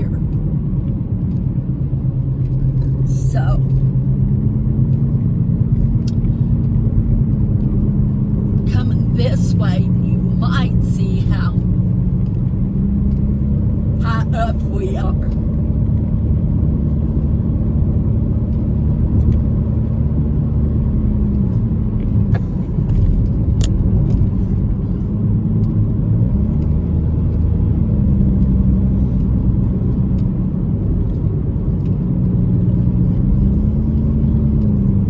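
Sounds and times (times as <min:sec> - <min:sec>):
car engine inside moving car: 0:00.0 - 0:35.0.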